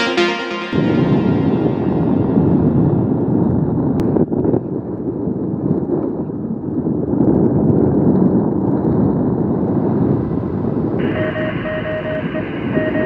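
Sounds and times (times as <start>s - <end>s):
wind rushing over microphone: 0.8s - 13.0s.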